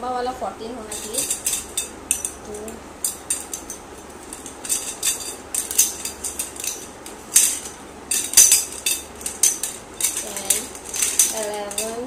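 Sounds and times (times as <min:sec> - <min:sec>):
metal tubes clinking: 0:00.8 - 0:12.0.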